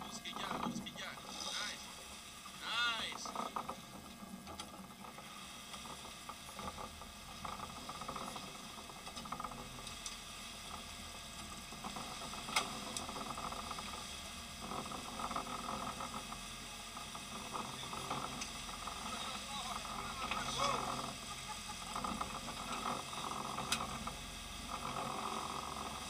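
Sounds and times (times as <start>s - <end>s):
boat wake hissing: 0.0s - 26.0s
faint engine hum: 0.0s - 26.0s.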